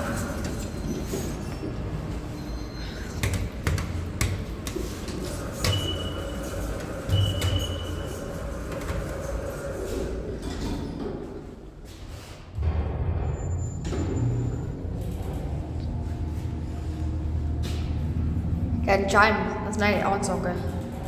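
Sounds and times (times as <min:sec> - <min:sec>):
elevator low hum: 0:00.0 - 0:21.0.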